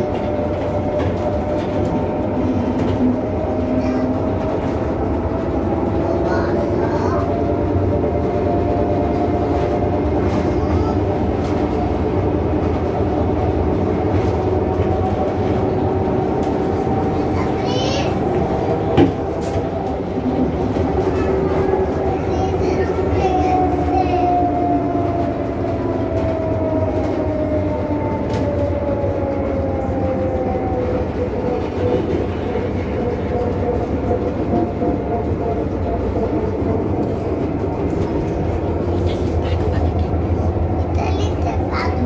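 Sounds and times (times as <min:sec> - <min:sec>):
tram wheels rumbling on rail: 0:00.0 - 0:42.0.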